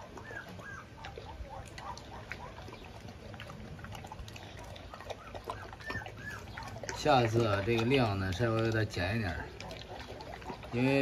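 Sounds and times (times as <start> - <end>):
dog eating from a metal bowl: 0.0 - 11.0.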